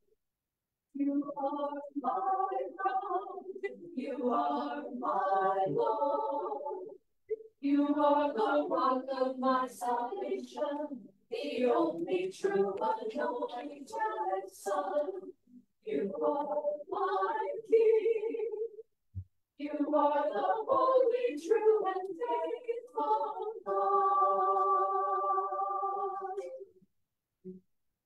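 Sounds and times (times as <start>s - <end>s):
choir singing unaccompanied: 1.0s - 7.0s, 7.6s - 18.7s, 19.6s - 26.7s.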